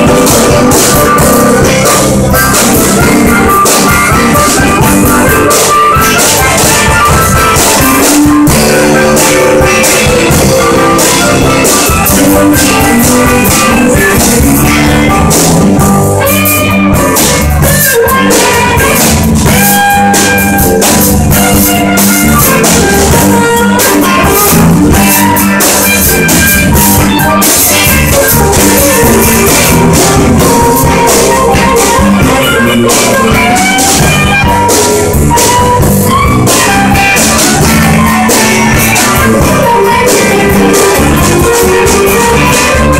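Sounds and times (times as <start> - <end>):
harmonica through microphone: 0.0 - 42.9
live blues band playing: 0.0 - 42.9.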